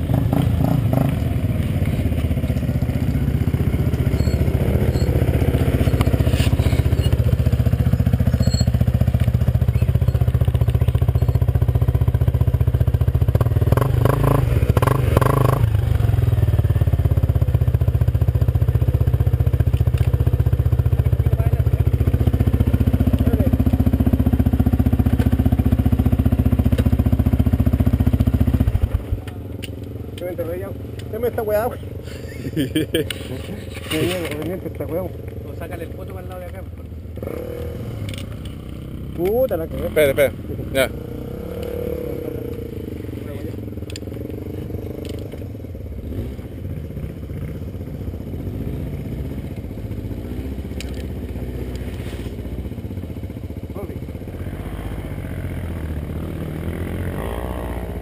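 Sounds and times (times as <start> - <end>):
atv engine idling: 0.0 - 58.0.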